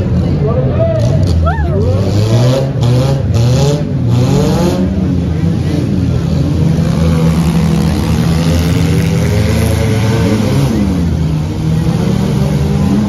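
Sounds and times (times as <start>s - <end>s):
car engines running: 0.0s - 13.0s
engine revving: 1.0s - 13.0s.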